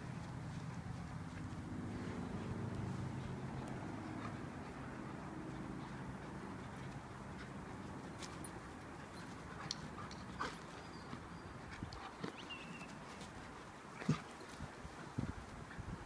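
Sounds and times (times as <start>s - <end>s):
paws tapping and scuffling on turf: 0.0s - 16.0s.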